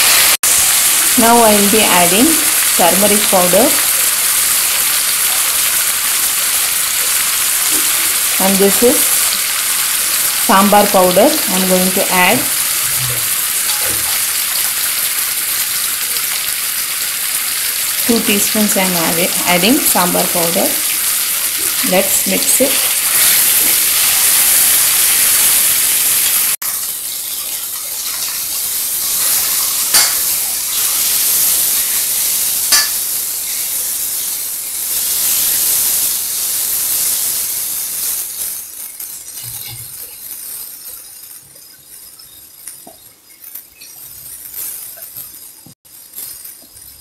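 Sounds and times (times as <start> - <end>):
food sizzling in oil: 0.0 - 47.0.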